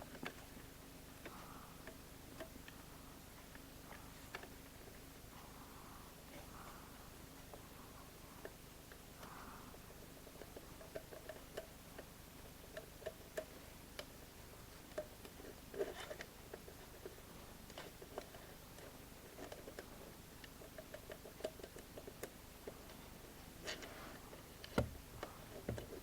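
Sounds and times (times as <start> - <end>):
faint small clicks and taps: 0.0 - 5.4, 10.2 - 26.0.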